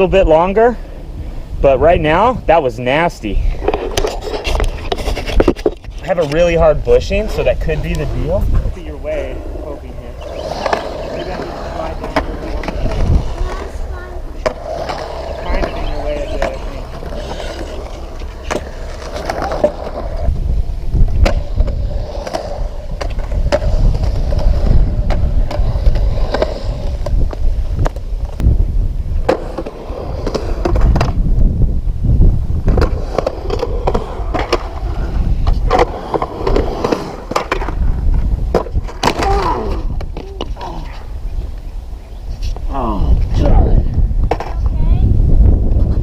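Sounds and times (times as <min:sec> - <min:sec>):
skateboard rolling over concrete: 0:00.0 - 0:46.0.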